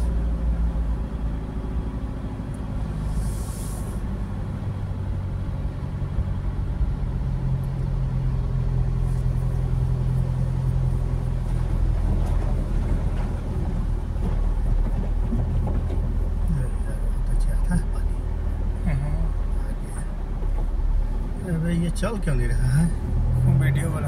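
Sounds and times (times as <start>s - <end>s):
car engine hum: 0.0s - 24.0s.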